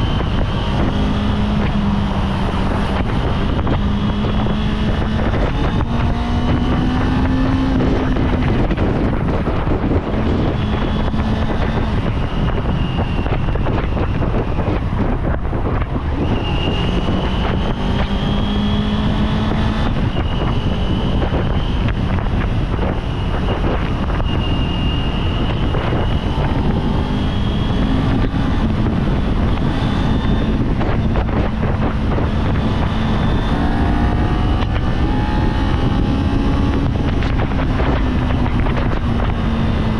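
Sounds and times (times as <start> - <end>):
motorcycle engine revving: 0.0 - 39.9
wind on microphone: 0.0 - 39.9.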